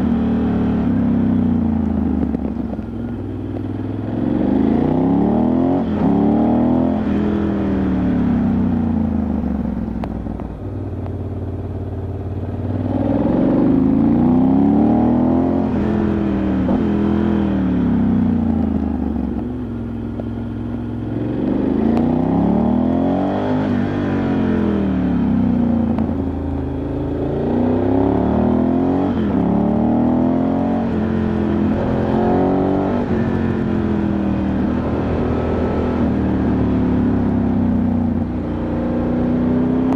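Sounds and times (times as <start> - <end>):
motorcycle engine revving: 0.0 - 39.9
road noise: 0.0 - 39.9.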